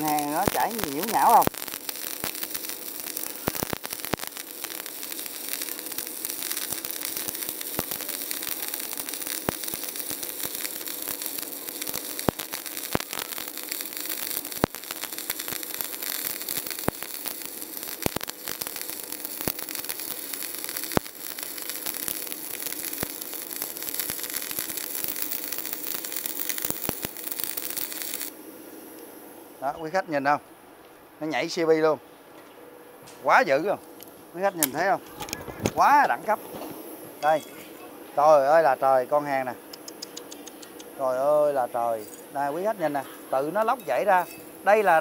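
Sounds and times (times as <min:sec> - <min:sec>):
welding arc crackling hiss: 0:00.0 - 0:30.4, 0:31.2 - 0:32.0, 0:32.9 - 0:45.0.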